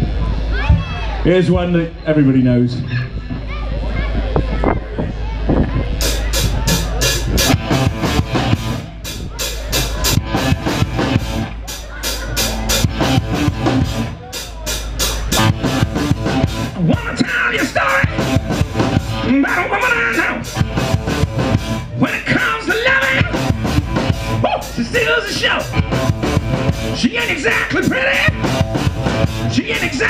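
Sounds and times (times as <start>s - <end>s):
electric guitars and bass: 0.0s - 30.0s
drum kit beat: 5.9s - 30.0s.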